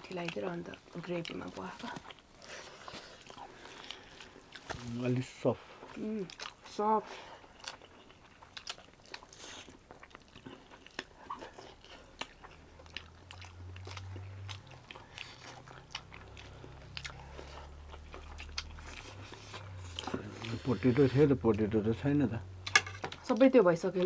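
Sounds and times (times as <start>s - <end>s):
faint low hum: 0.0s - 24.0s
person chewing with mouth clicks: 0.2s - 4.9s, 5.8s - 6.7s, 7.3s - 21.6s.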